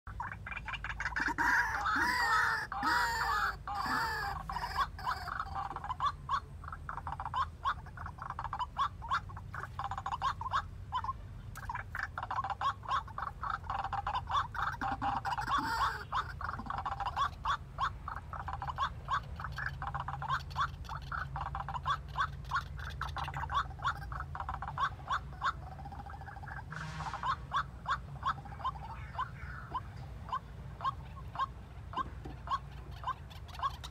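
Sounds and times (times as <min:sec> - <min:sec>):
bird quick repeated croaking: 0:00.1 - 0:33.9
waterhen harsh wavering calls: 0:00.1 - 0:33.9.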